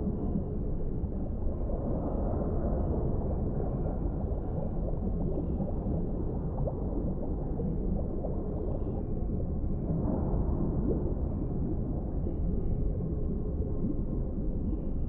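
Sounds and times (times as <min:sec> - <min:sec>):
low underwater rumble: 0:00.0 - 0:15.0.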